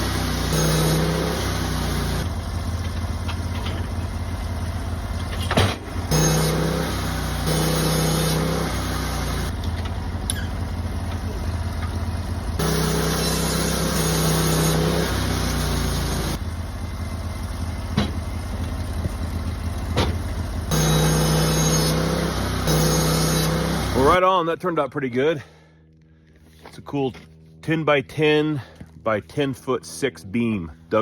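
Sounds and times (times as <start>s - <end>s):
sawmill engine running: 0.0s - 25.6s.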